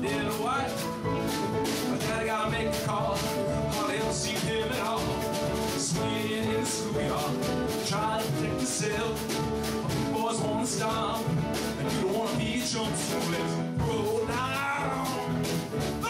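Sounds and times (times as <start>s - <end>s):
man singing into microphone: 0.0s - 1.0s, 1.8s - 15.4s
piano: 0.0s - 16.0s
steady beat: 0.0s - 16.0s.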